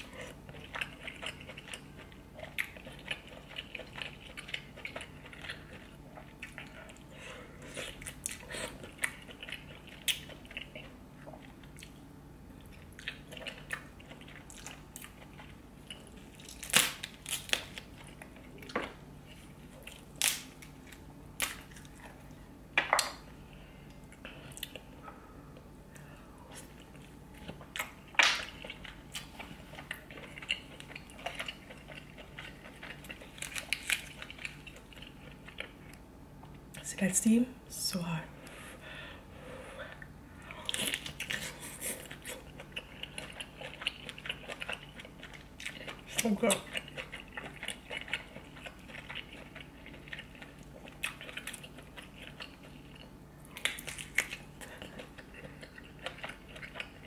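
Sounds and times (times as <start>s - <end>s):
person chewing: 0.0s - 36.8s, 39.4s - 57.0s.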